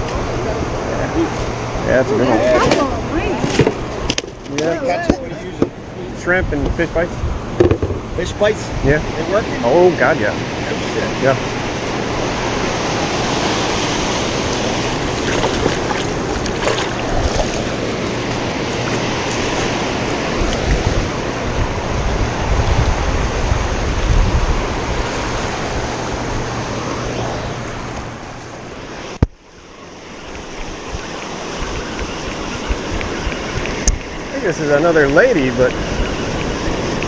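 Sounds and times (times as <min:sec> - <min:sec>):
ocean surf washing up beach: 0:00.0 - 0:37.0
wind buffeting microphone: 0:00.0 - 0:37.0.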